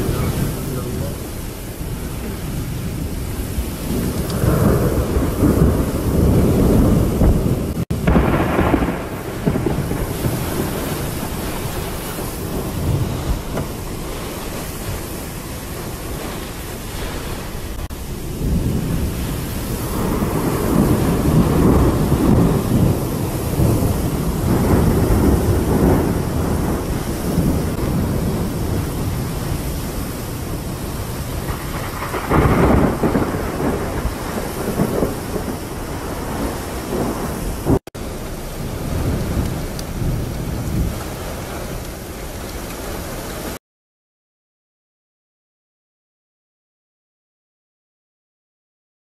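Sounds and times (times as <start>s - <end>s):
wind and rain storm: 0.0s - 43.6s.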